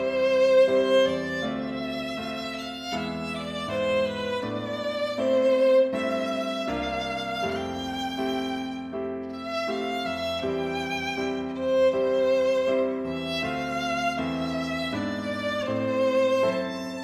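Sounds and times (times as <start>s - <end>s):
instrumental music with held notes: 0.0s - 17.0s.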